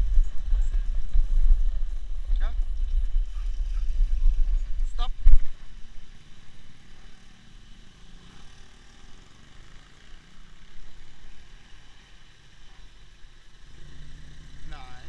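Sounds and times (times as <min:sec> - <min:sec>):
car engines running at low speed: 0:00.0 - 0:15.0.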